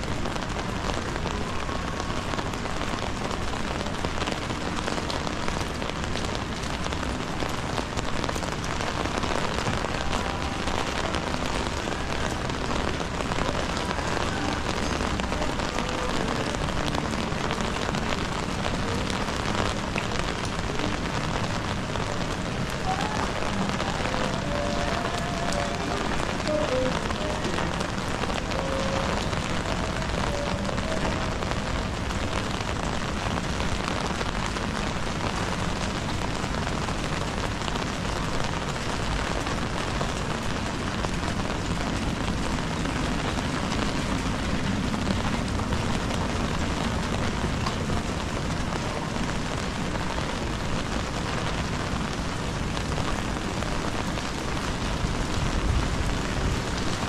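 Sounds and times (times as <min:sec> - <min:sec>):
rain on pavement: 0:00.0 - 0:57.0.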